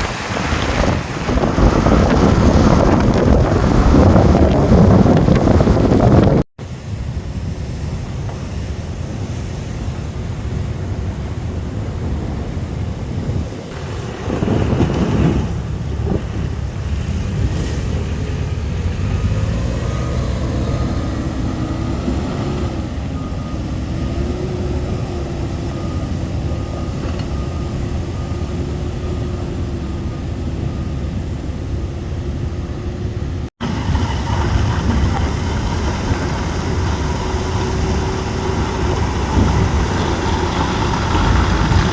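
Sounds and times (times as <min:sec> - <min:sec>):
wind on microphone: 0:00.0 - 0:26.4, 0:33.6 - 0:41.9
vehicle road and engine noise: 0:00.0 - 0:41.9.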